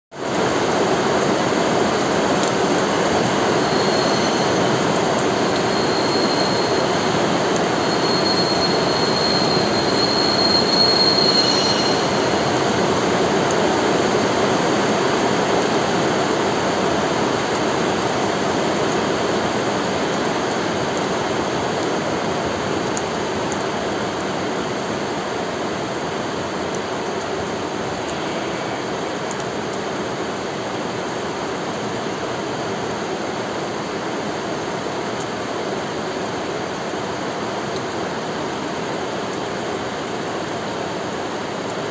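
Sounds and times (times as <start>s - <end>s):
heavy rain pouring: 0.1s - 41.9s.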